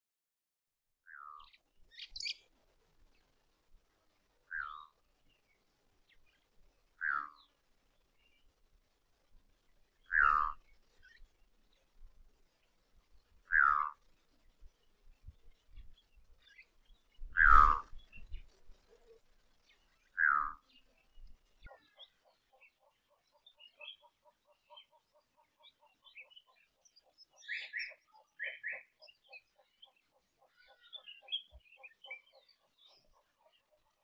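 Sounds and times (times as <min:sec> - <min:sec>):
small birds chirping: 0:01.1 - 0:34.0.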